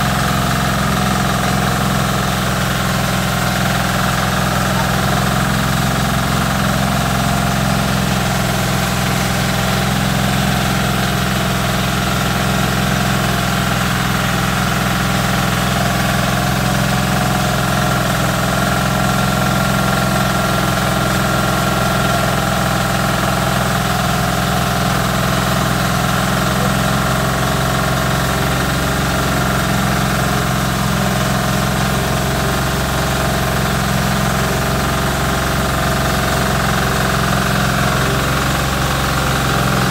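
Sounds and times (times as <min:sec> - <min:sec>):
engine and rice mill droning: 0:00.0 - 0:39.9.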